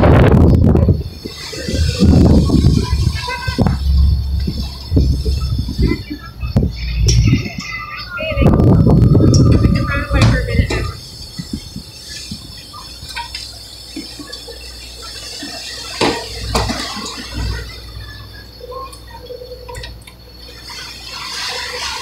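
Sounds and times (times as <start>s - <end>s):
low boat engine drone: 0.0s - 22.0s
water churning and splashing: 0.0s - 22.0s.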